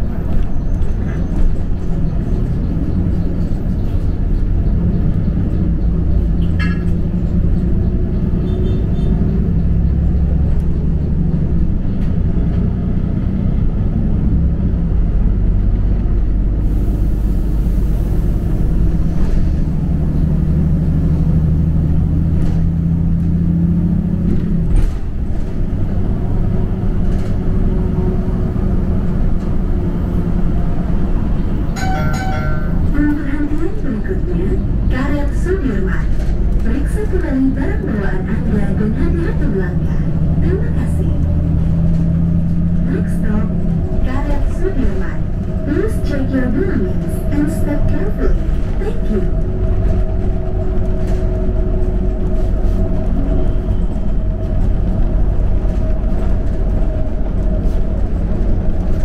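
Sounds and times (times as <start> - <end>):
bus engine rumble from inside: 0.0 - 59.0.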